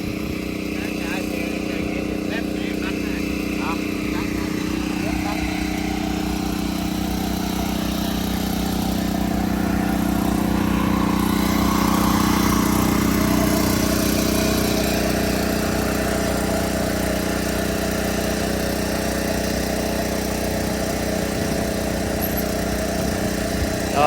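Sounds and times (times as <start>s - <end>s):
engine humming: 0.0s - 24.0s.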